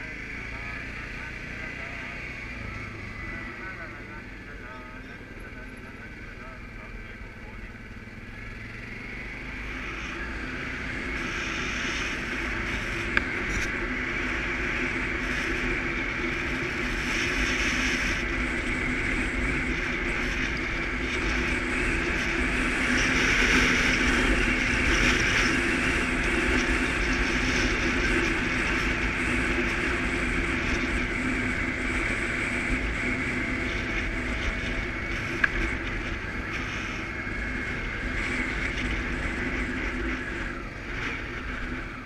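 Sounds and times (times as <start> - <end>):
atv engine running: 0.0 - 42.0
rushing wind and road noise: 0.0 - 42.0.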